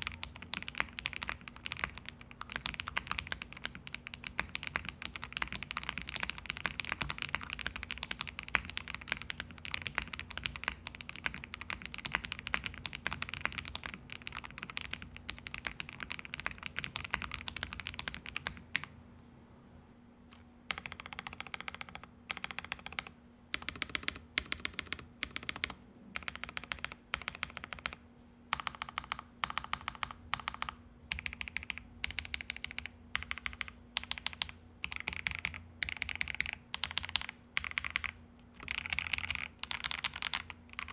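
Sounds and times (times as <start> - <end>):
mechanical keyboard typing: 0.0 - 18.9, 20.7 - 40.9.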